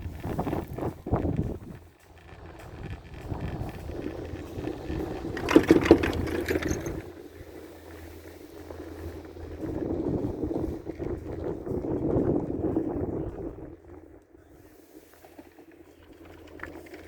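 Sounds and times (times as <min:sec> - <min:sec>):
wind on microphone: 0:00.0 - 0:14.9
chairlift mechanical rumbling: 0:00.0 - 0:17.0.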